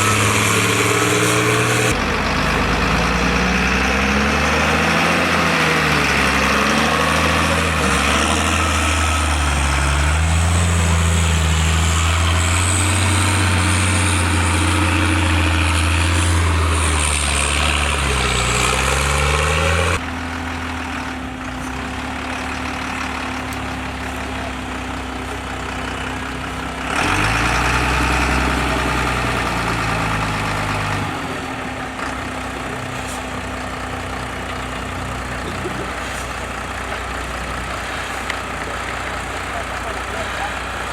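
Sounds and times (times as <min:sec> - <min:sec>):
diesel truck engine revving: 0:00.0 - 0:40.9.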